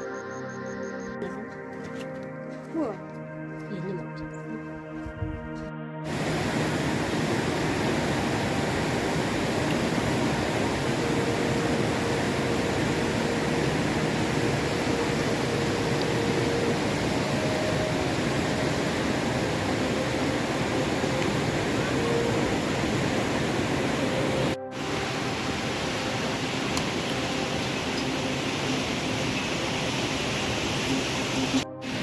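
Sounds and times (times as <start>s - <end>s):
music: 0.0s - 32.0s
faint steady tone: 6.1s - 32.0s
steady rushing noise: 6.1s - 32.0s.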